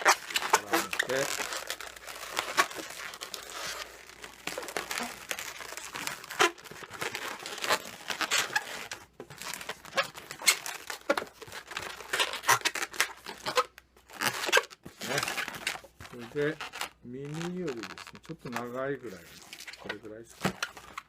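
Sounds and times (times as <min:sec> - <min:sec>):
rubber balloon squeaking: 0:00.0 - 0:21.0.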